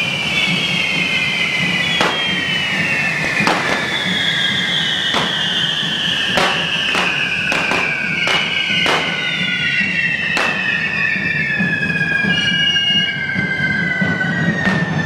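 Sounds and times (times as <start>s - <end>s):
firecracker bangs: 0.0s - 13.1s, 14.2s - 15.0s
whistling fireworks: 0.0s - 15.0s.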